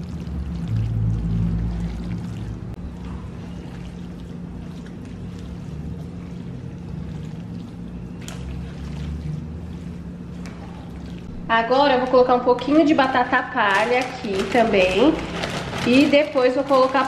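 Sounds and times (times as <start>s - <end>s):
low steady hum: 0.0s - 17.0s
spoon stirring wet food: 0.0s - 17.0s.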